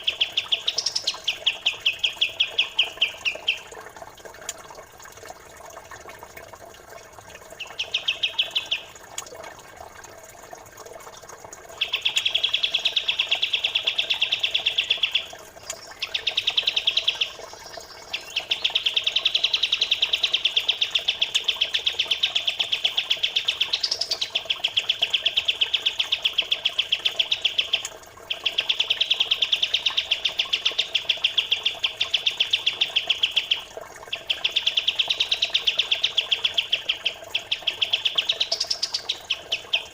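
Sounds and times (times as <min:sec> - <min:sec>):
songbird trilling: 0:00.0 - 0:03.7, 0:07.6 - 0:08.9, 0:11.8 - 0:21.4, 0:22.0 - 0:39.9
trickling water: 0:00.0 - 0:39.9.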